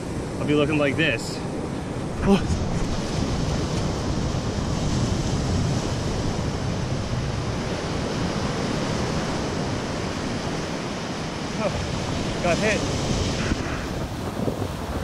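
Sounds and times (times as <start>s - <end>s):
ocean surf on beach: 0.0s - 15.0s
wind on microphone: 0.0s - 15.0s.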